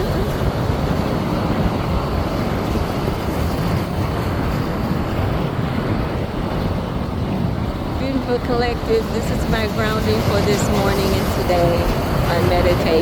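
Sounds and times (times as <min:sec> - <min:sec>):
waves splashing against rocks: 0:00.0 - 0:13.0
wind rumbling on microphone: 0:00.0 - 0:13.0.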